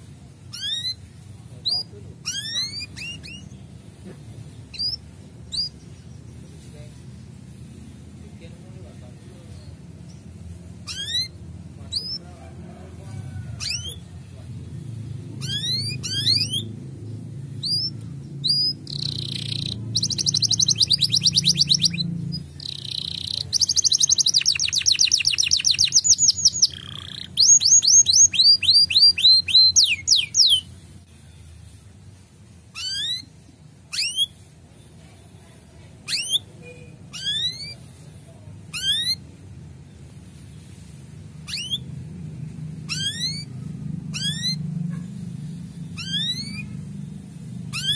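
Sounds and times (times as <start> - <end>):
canary singing trills: 0.4 - 31.9, 32.6 - 47.9.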